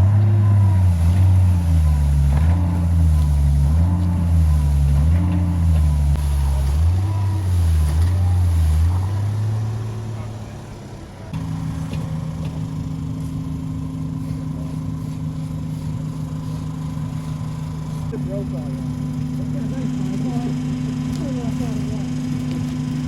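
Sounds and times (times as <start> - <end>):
engine running steadily: 0.0 - 23.0
heavy engine revving: 0.0 - 23.0.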